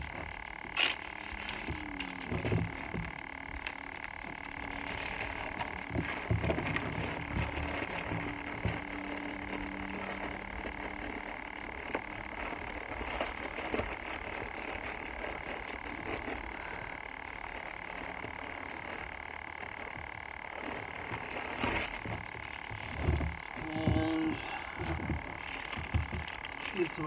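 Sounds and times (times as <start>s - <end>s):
packet rustling: 0.0s - 27.0s.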